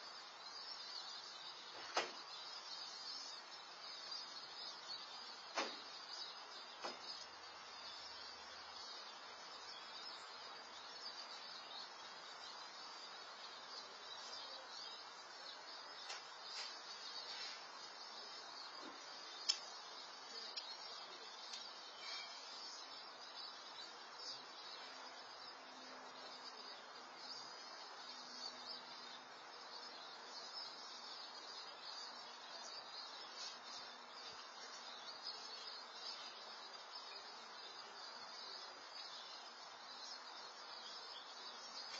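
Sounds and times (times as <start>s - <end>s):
low hiss: 0.0s - 41.9s.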